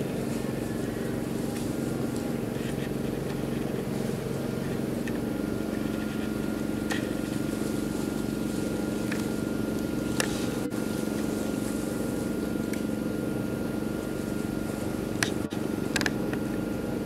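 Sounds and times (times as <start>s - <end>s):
low mechanical hum: 0.0s - 17.0s
thin steady whine: 0.0s - 17.0s.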